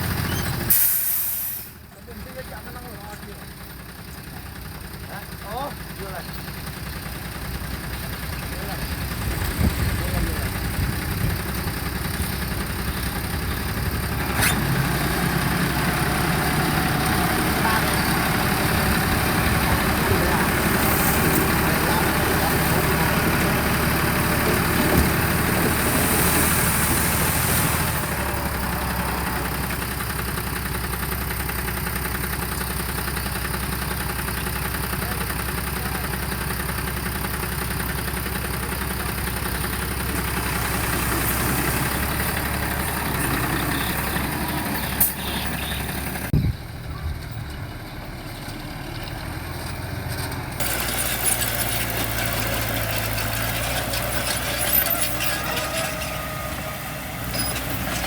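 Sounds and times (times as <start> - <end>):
diesel engine running at low revs: 0.0 - 58.0.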